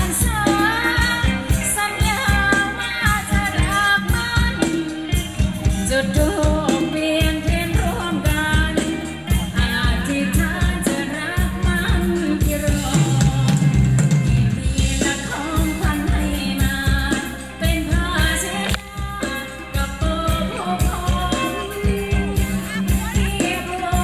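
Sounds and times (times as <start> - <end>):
drum kit steady beat: 0.0 - 24.0
person singing with live band: 0.0 - 24.0.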